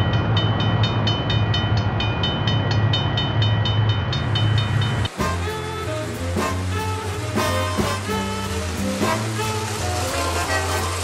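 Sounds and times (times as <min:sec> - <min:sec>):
train low hum: 0:00.0 - 0:11.0.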